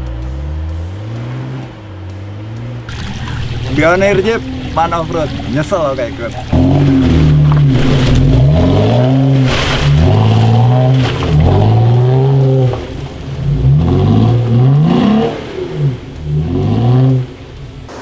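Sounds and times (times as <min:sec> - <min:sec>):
off-road engine revving: 0:00.0 - 0:18.0.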